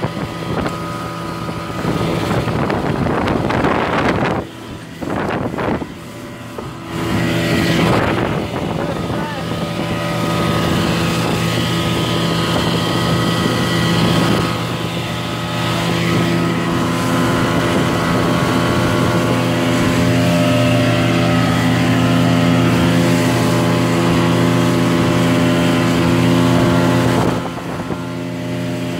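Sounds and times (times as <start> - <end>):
boat engine running: 0.0 - 28.9
water rushing along hull: 0.0 - 28.9.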